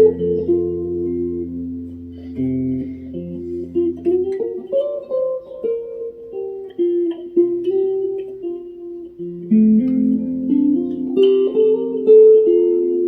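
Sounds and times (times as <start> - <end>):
plucked guitar-like melody: 0.0 - 13.0.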